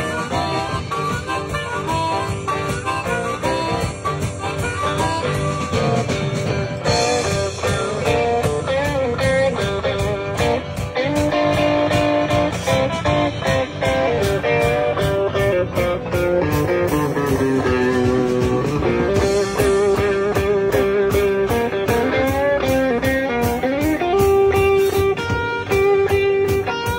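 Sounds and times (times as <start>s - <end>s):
blues guitar bending notes: 0.0s - 26.9s
drums steady beat: 0.0s - 26.9s.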